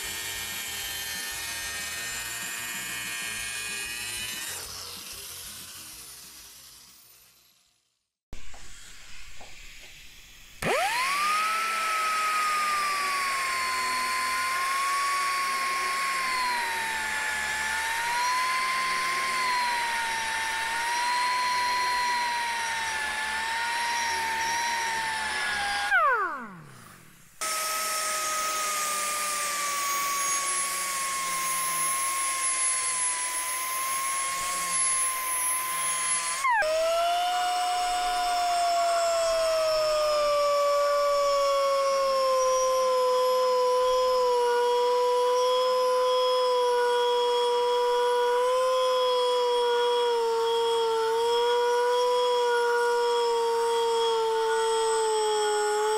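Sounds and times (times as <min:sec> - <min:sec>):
pneumatic grinder cutting metal: 0:00.0 - 0:55.9.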